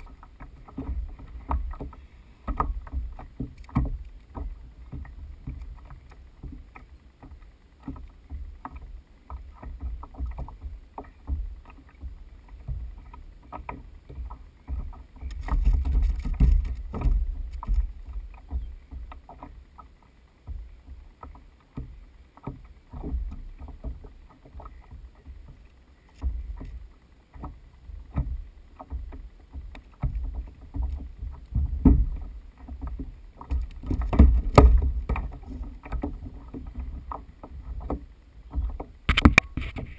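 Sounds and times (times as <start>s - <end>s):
small knocks and bumps: 0.0s - 39.9s
water lapping against kayak hull: 0.0s - 39.9s.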